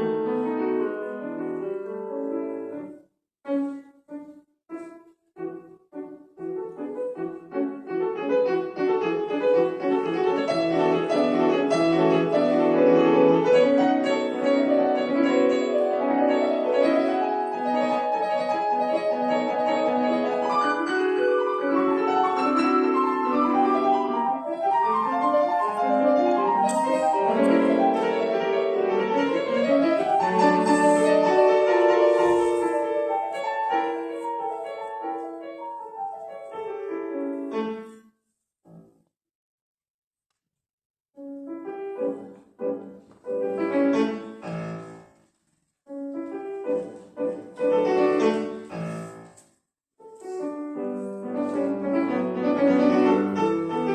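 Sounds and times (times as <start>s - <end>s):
solo piano piece: 0.0s - 38.1s, 41.2s - 53.9s.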